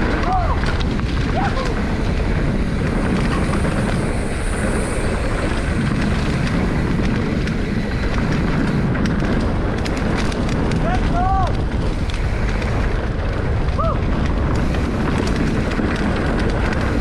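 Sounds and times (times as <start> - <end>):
bike rattling: 0.0 - 17.0
tyres rumbling on dirt: 0.0 - 17.0
wind on microphone: 0.0 - 17.0.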